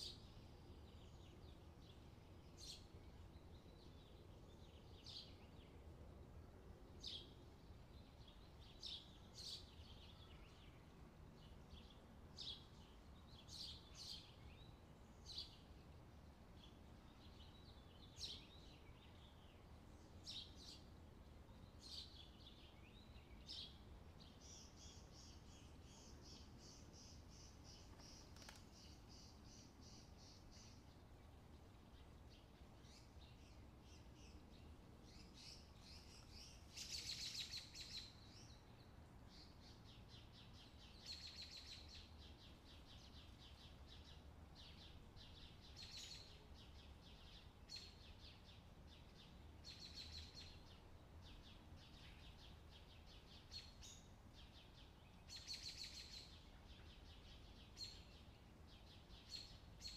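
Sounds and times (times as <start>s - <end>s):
low steady hum: 0.0s - 59.9s
small birds chirping: 0.0s - 59.9s.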